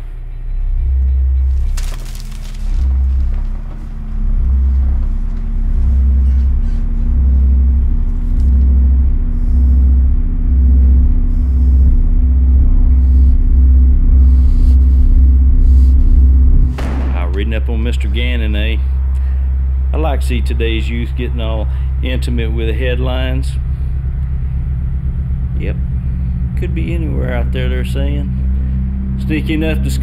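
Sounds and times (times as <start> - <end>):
deep bass pulses: 0.0 - 30.0
low drone: 0.0 - 30.0.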